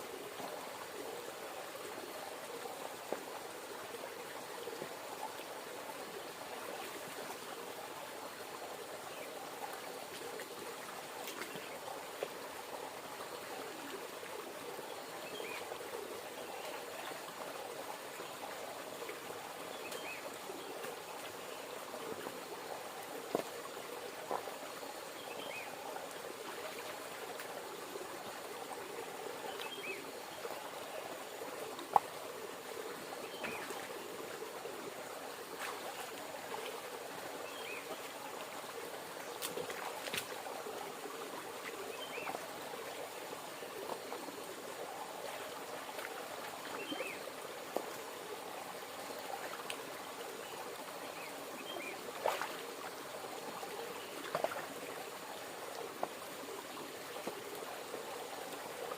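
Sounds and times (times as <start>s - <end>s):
river water running: 0.0s - 58.9s.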